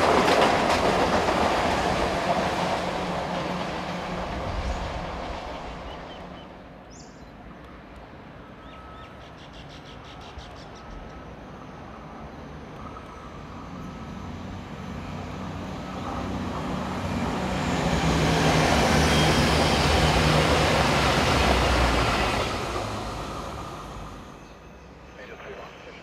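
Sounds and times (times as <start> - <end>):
wheels rushing on rails: 0.0 - 26.0.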